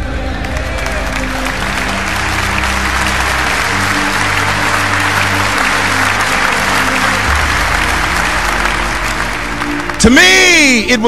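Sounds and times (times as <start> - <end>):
audience applauding: 0.0 - 11.0
sustained music chords: 0.0 - 11.0.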